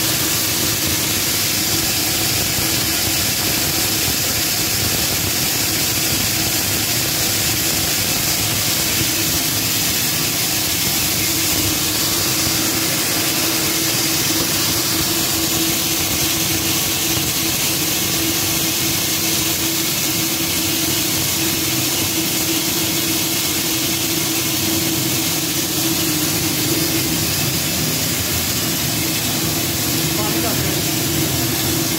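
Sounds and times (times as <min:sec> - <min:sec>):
grain mill running: 0:00.0 - 0:31.9.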